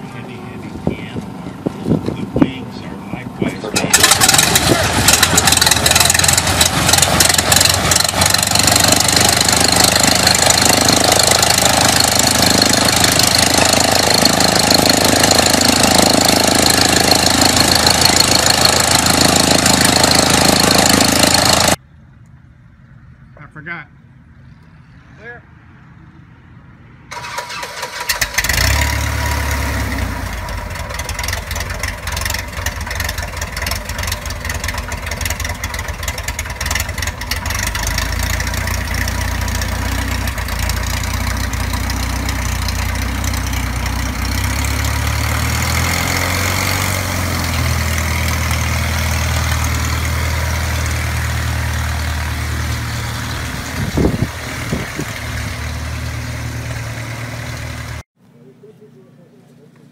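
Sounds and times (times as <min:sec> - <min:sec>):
piston aircraft engine running: 0:00.0 - 0:21.8, 0:27.1 - 0:58.0.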